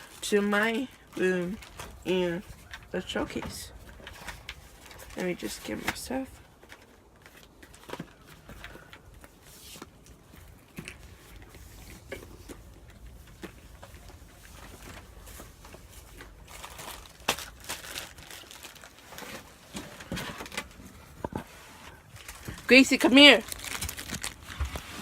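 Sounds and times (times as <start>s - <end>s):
rustling of things handled: 0.0s - 25.0s.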